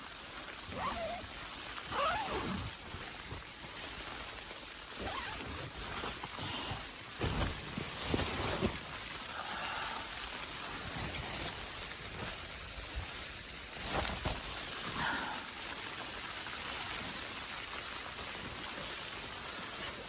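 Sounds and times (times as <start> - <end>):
hiss of wind-driven snow: 0.0 - 20.0.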